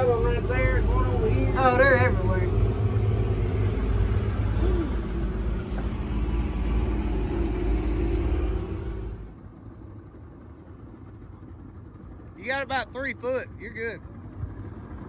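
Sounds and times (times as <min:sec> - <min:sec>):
distant boat engine: 0:00.0 - 0:15.0
outboard motor rumbling: 0:00.0 - 0:15.0.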